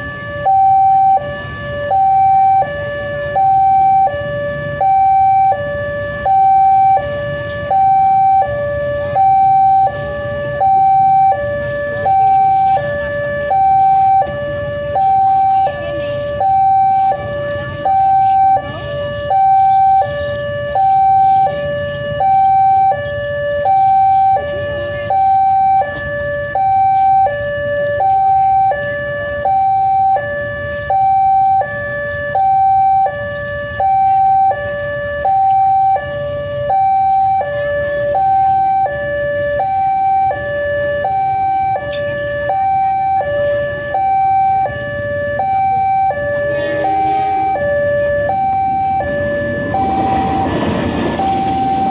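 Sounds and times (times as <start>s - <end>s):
street traffic rumble: 0.0s - 51.9s
two-tone crossing alarm: 0.0s - 51.9s.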